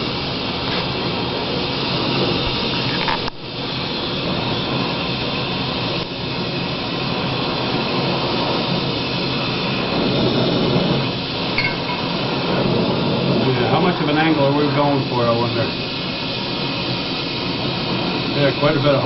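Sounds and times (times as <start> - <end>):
loud mechanical rushing noise: 0.0 - 19.0.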